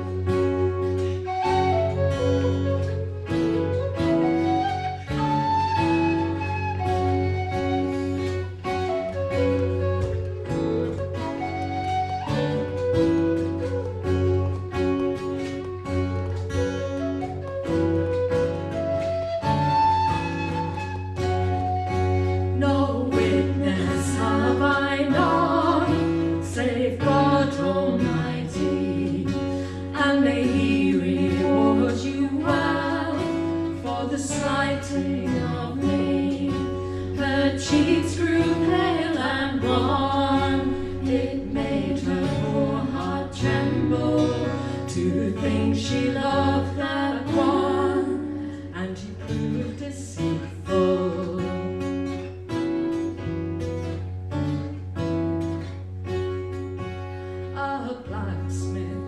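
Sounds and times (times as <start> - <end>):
guitar: 0.0 - 59.0.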